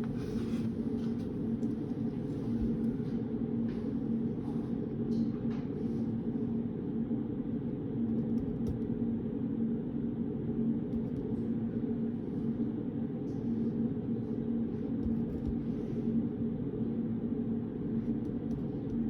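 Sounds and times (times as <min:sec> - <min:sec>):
faint hum: 0:00.0 - 0:19.0
low room rumble: 0:00.0 - 0:19.0.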